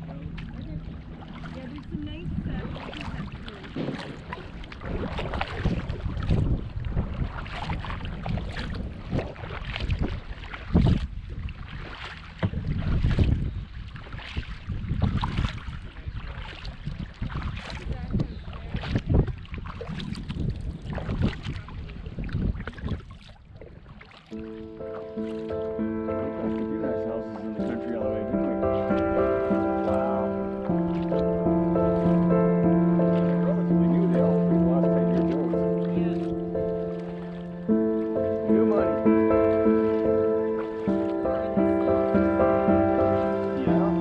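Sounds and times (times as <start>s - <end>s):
paddle splashing in water: 0.0s - 44.0s
wind rumbling on microphone: 0.0s - 44.0s.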